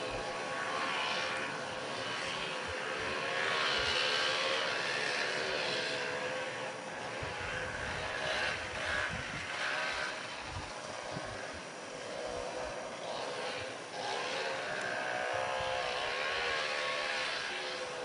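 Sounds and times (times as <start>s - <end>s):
distant motorcycle engine revving: 0.0s - 18.0s.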